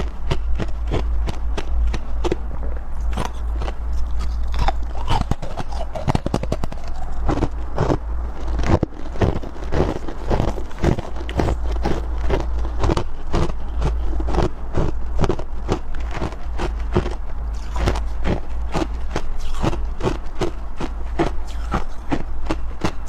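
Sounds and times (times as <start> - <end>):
chewing ice crunches: 0.0 - 23.0
low steady hum: 0.0 - 23.0.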